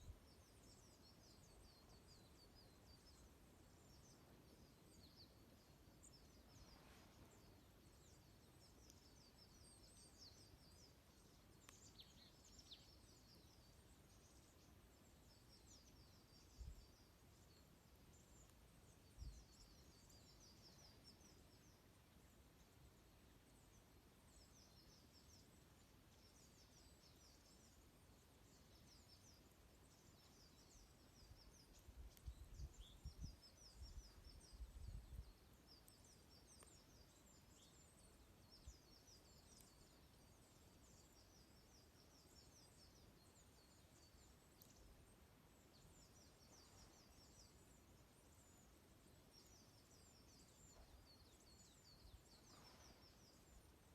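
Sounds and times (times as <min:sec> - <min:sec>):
background hiss: 0:00.0 - 0:53.9
songbirds twittering: 0:00.0 - 0:53.9.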